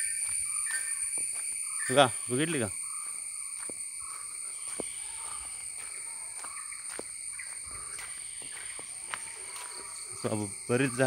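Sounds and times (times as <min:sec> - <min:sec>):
insects chirping shrilly: 0:00.0 - 0:11.0.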